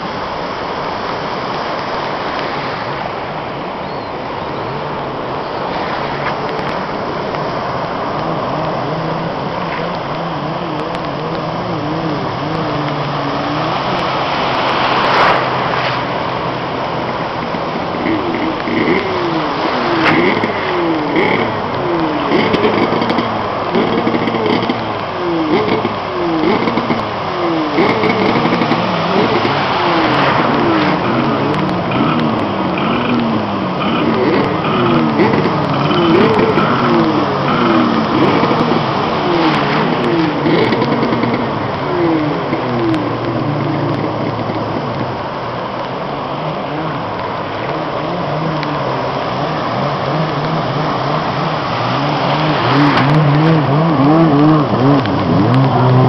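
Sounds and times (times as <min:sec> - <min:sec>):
loud rush of noise: 0:00.0 - 0:56.0
jet ski engine revving: 0:05.5 - 0:56.0.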